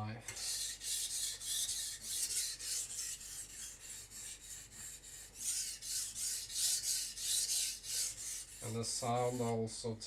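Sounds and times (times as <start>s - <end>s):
knife grinding on whetstone: 0.4s - 9.6s.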